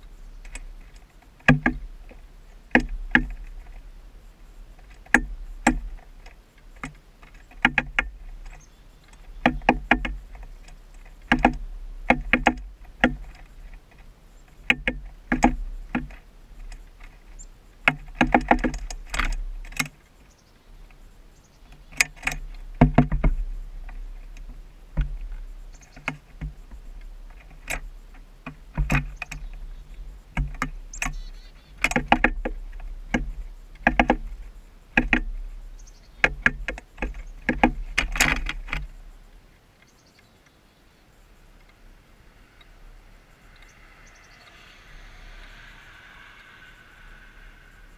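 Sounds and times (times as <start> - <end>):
woodpecker pecking: 0.0 - 47.9.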